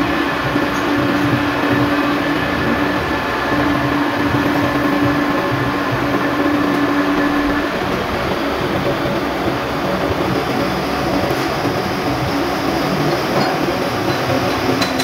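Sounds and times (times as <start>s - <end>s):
lathe hum: 0.0s - 15.0s
metal lathe running: 0.0s - 15.0s.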